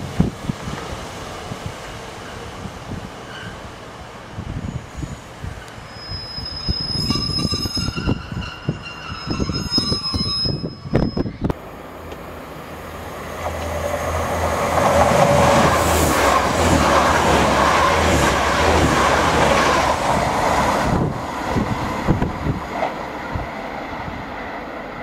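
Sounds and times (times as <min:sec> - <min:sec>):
diesel train passing: 0:00.0 - 0:25.0.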